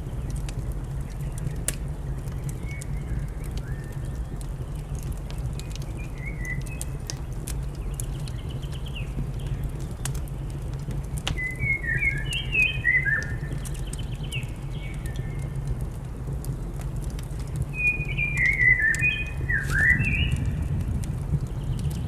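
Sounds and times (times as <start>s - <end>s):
small birds chirping: 0.0s - 15.9s, 17.0s - 22.0s
low rumble: 0.0s - 22.0s
wood fire crackling and popping: 0.0s - 22.0s.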